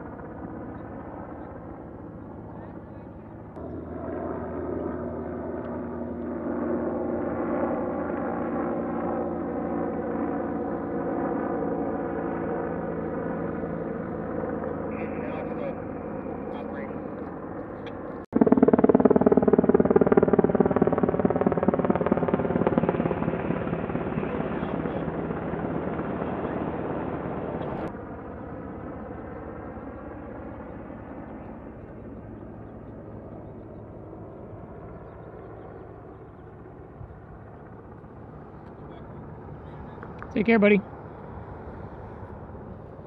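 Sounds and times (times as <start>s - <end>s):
distant helicopter: 0.0s - 43.0s
helicopter flying overhead: 0.0s - 43.0s.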